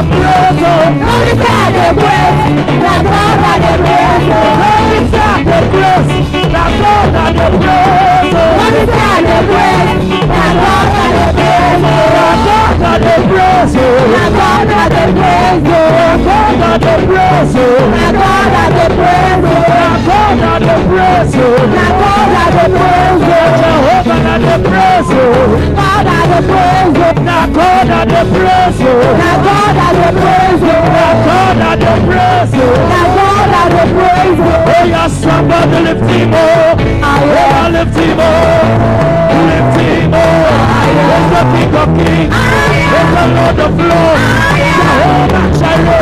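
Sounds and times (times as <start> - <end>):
gospel band music: 0.0 - 46.0
person singing: 0.0 - 46.0
steady drum beat: 0.0 - 46.0.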